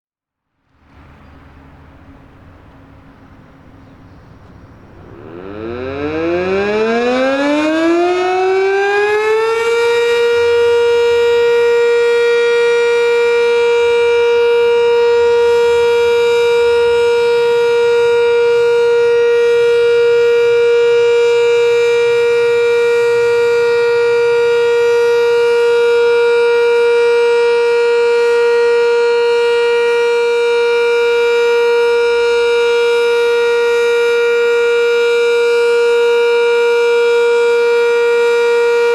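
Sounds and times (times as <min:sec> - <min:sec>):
warning siren winding up: 0:04.9 - 0:38.9.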